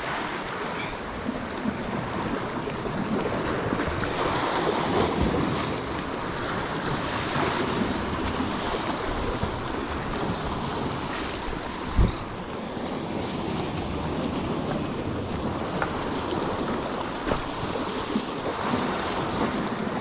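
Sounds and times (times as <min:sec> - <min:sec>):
sea surging against rocky shore: 0:00.0 - 0:20.0
wind noise on microphone: 0:00.0 - 0:20.0.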